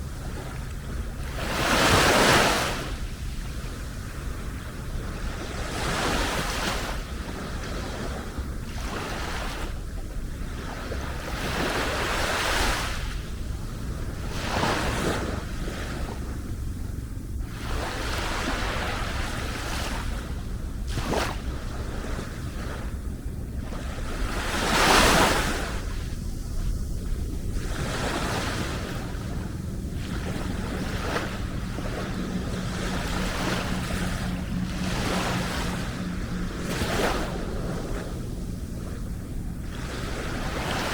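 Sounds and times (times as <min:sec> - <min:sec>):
waves breaking on beach: 0:00.0 - 0:40.9
wind buffeting microphone: 0:00.0 - 0:40.9.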